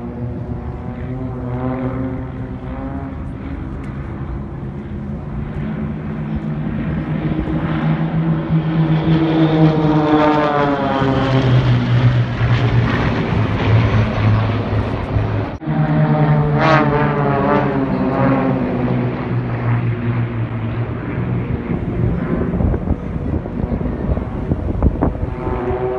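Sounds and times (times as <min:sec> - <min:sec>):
propeller planes droning overhead: 0:00.0 - 0:25.9.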